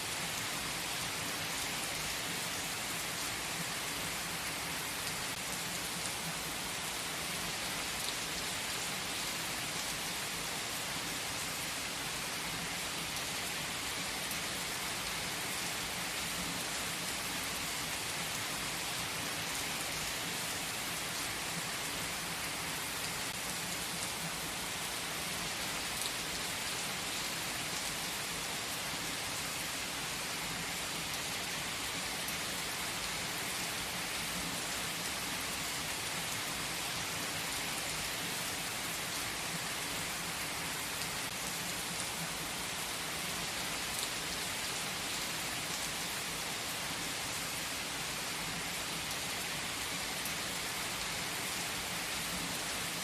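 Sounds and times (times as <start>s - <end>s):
rain-like hiss: 0.0s - 53.0s.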